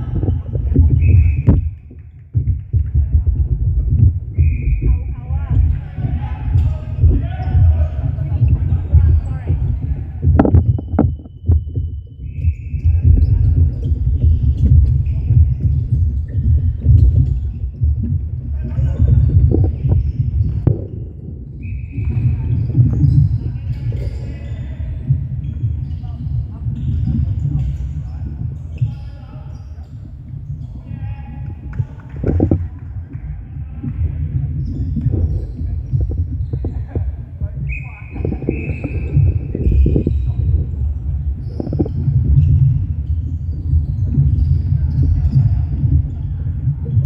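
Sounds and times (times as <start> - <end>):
low hall rumble: 0.0 - 47.0
sneaker squeaks: 4.3 - 47.0.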